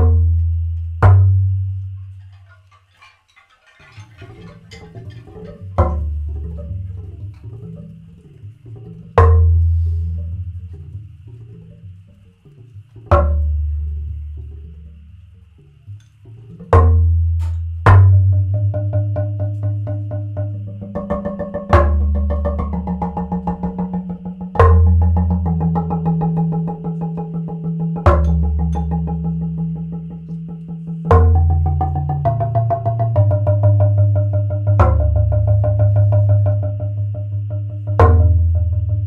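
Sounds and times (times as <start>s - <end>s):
drumming on wooden box: 0.0s - 2.7s, 4.3s - 8.0s, 8.7s - 10.7s, 13.0s - 13.9s, 16.5s - 39.0s.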